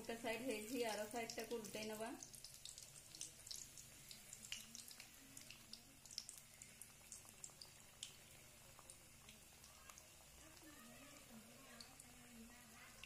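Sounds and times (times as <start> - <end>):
oil crackling and popping: 0.0 - 13.0.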